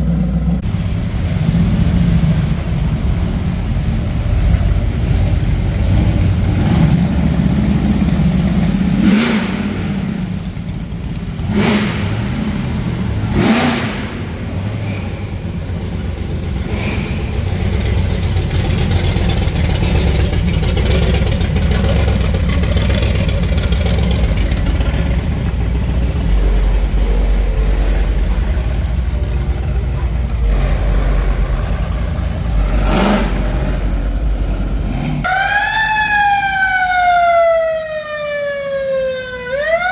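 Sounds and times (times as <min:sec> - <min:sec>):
engine revving: 0:00.0 - 0:37.9.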